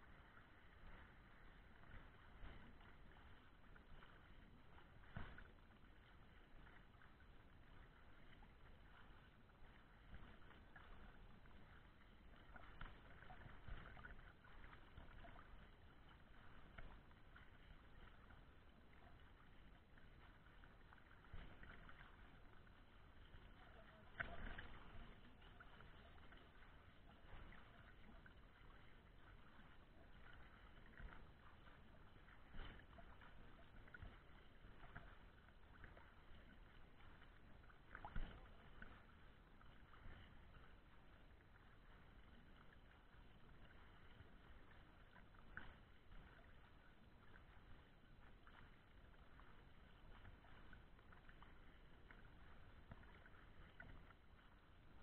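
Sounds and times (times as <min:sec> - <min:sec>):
water splashing from swimming: 0:00.0 - 0:55.0.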